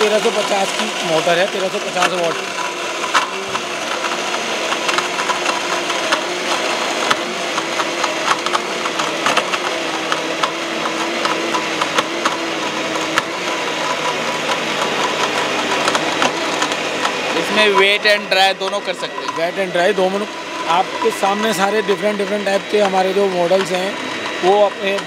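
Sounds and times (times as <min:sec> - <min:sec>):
mixer grinder motor running: 0:00.0 - 0:25.0.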